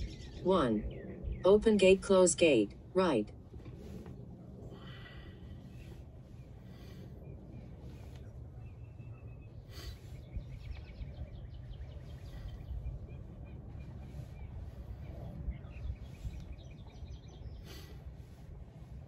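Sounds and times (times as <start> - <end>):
birds chirping trills: 0.0 - 3.3, 4.7 - 19.0
low outdoor rumble: 0.0 - 19.0.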